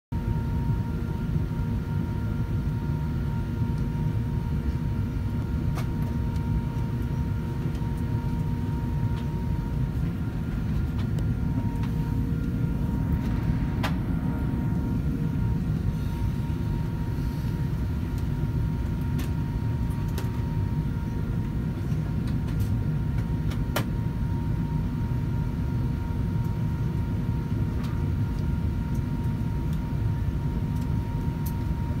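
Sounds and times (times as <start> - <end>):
faint hum tone: 0.1 - 32.0
aircraft cabin rumble: 0.2 - 32.0.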